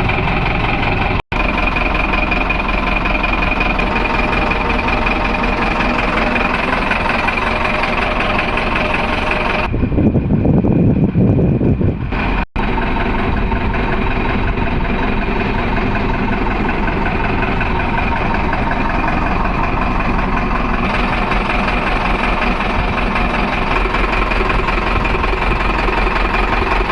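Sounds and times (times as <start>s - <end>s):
truck diesel engine idling: 0.0s - 26.9s.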